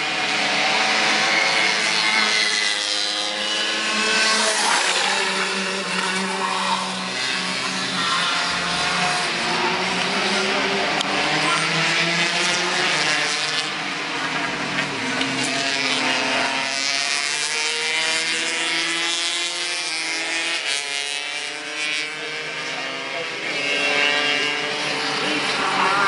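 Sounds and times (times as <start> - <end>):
go-kart engines running: 0.0 - 26.0.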